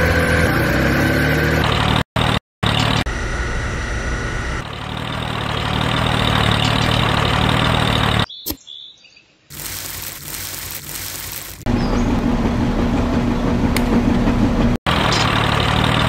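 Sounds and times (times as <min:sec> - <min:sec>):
large engine running: 0:00.0 - 0:08.3, 0:09.5 - 0:16.0.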